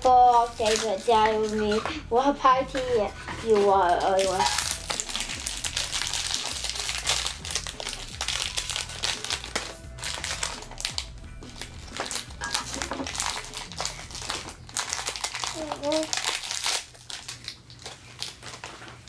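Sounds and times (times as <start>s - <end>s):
foil wrapper crinkling: 0.0s - 1.9s, 2.7s - 19.0s.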